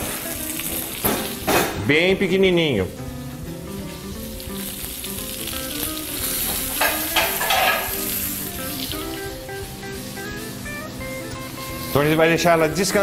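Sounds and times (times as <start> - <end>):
steaks sizzling in a grill pan: 0.0 - 13.0.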